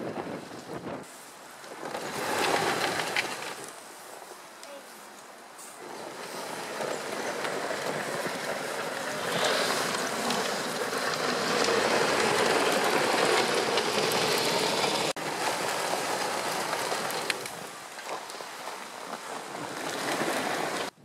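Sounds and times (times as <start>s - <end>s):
snow crunching: 0.0s - 21.0s
tracked vehicle clattering: 1.6s - 3.8s, 5.6s - 21.0s.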